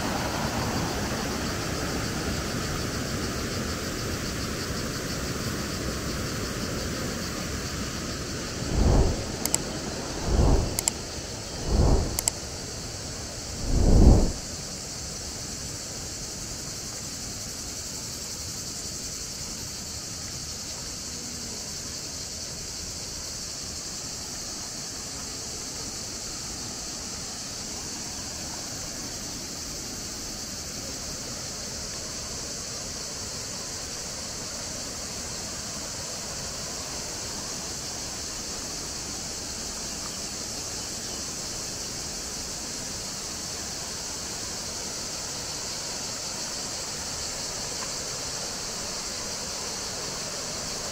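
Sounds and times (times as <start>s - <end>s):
insects buzzing: 0.0s - 50.9s.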